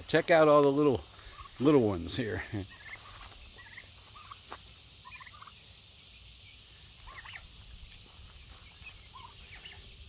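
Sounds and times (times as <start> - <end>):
insects hissing: 0.0 - 10.0
young turkeys chirping: 0.2 - 10.0.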